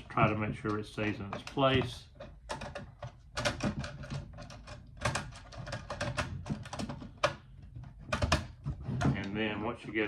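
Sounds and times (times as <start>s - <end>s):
plastic cover clicking and knocking: 0.0s - 9.4s.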